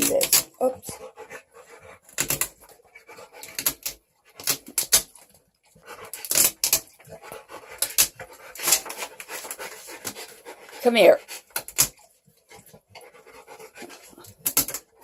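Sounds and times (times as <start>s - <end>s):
dog claws scratching and clicking: 0.0s - 15.0s.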